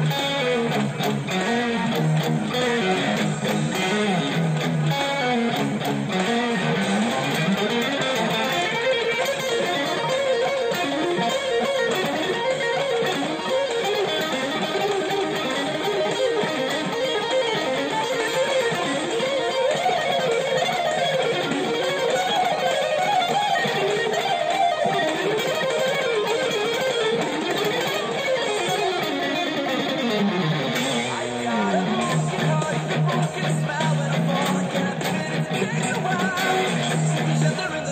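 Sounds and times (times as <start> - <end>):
electric guitar lead line: 0.0 - 37.9.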